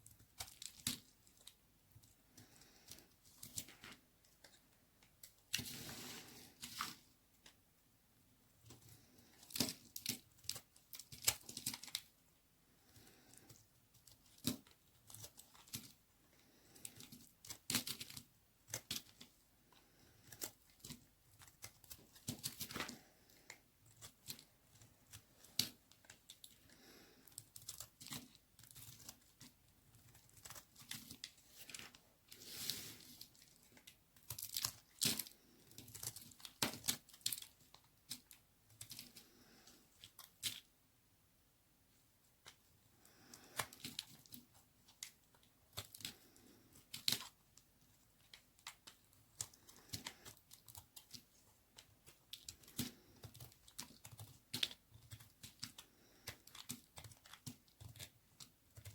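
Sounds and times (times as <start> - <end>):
knife scraping and crunching soap: 0.0 - 7.6, 8.6 - 40.7, 42.4 - 58.9.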